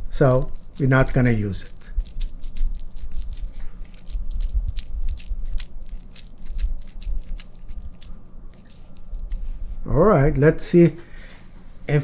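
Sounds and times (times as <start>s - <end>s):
hands squeezing minced meat: 0.1s - 9.8s.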